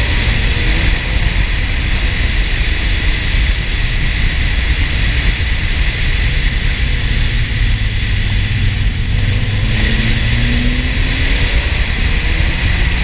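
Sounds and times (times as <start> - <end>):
car wind and road noise: 0.0 - 13.0.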